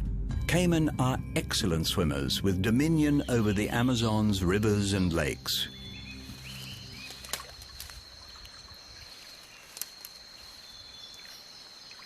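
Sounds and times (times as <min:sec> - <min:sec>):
high insect drone: 0:01.7 - 0:12.0.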